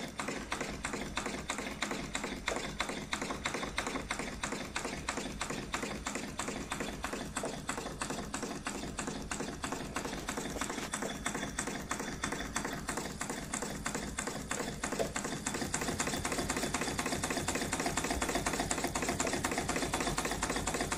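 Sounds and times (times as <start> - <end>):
model steam engine clattering: 0.0 - 20.9.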